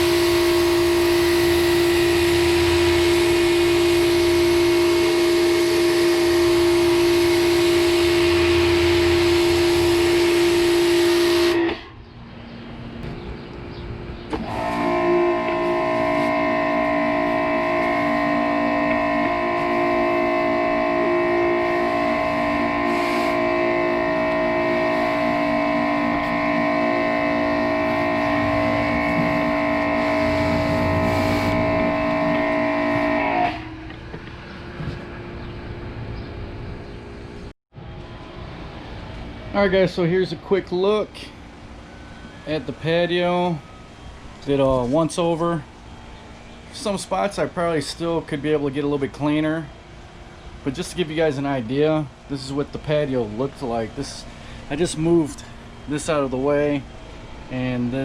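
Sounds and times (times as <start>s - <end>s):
pressure washer running: 0.0s - 11.8s, 14.1s - 36.1s, 38.6s - 58.0s.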